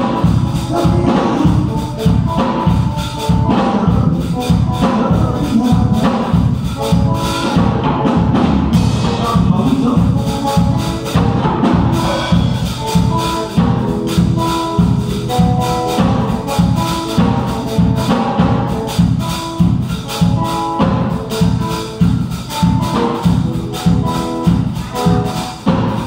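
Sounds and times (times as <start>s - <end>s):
bass: 0.0s - 26.0s
drums steady beat: 0.0s - 26.0s
electric guitar melodic notes: 0.0s - 26.0s.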